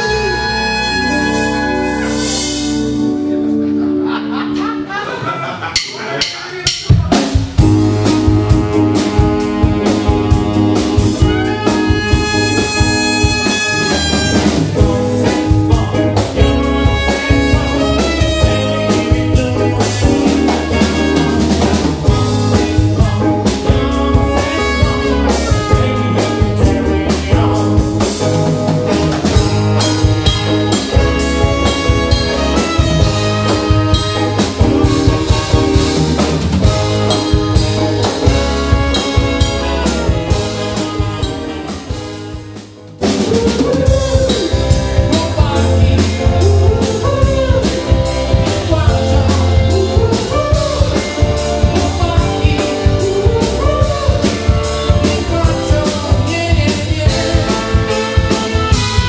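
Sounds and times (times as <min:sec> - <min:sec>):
saxophone and trumpet horn section: 0:00.0 - 0:03.6, 0:07.6 - 0:59.0
electric guitar: 0:00.0 - 0:05.2, 0:06.9 - 0:59.0
bass: 0:00.0 - 0:59.0
drum kit: 0:00.0 - 0:59.0.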